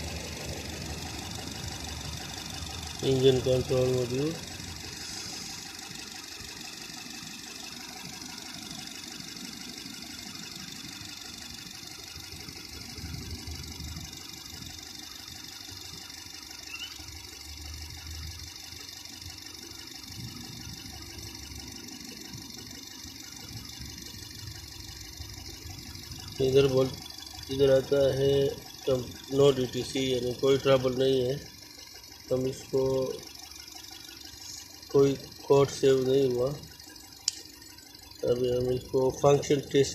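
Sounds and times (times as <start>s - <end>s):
engine idling with misfire: 0.0s - 39.9s.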